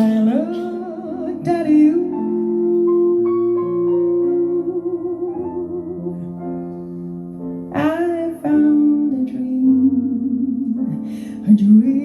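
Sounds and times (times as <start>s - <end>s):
person singing with vibrato: 0.0s - 6.6s, 7.7s - 12.0s
piano chords: 0.0s - 12.0s.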